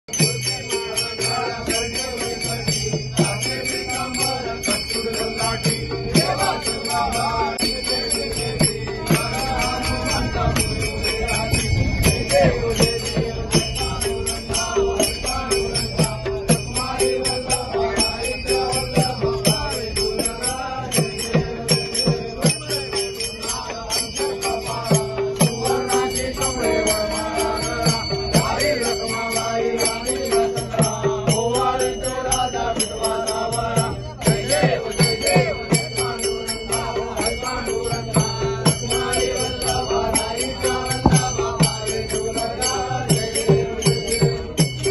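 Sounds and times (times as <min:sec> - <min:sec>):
jingling metal percussion: 0:00.0 - 0:44.9
group of voices singing: 0:00.1 - 0:44.9.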